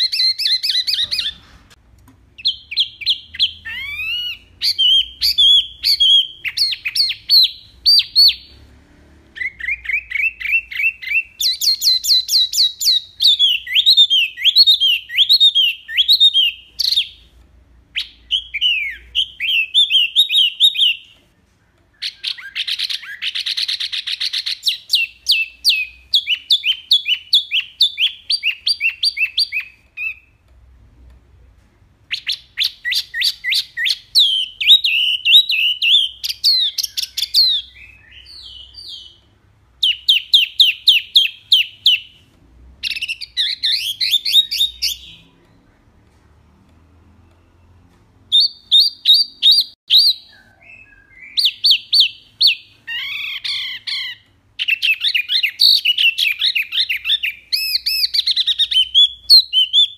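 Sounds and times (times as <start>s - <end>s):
songbird chirping and whistling: 0.0s - 1.7s, 2.3s - 8.6s, 9.3s - 30.5s, 32.0s - 45.8s, 47.1s - 59.9s.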